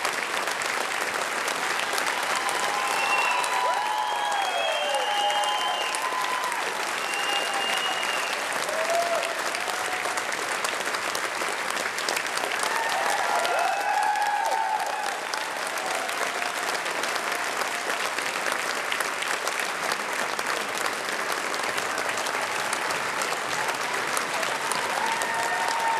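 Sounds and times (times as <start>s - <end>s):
audience applauding: 0.0s - 25.9s
crowd cheering: 0.0s - 25.9s.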